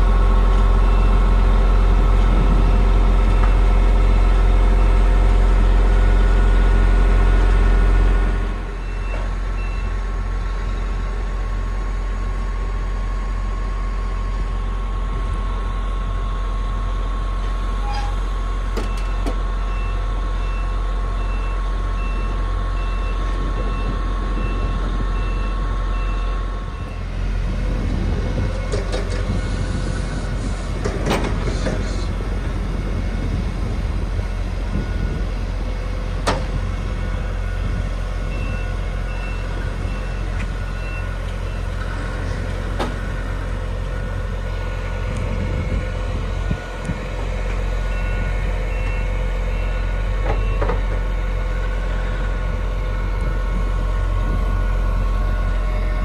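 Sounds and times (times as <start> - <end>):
hydraulic whine: 0.0 - 56.0
truck engine at raised revs: 0.0 - 56.0.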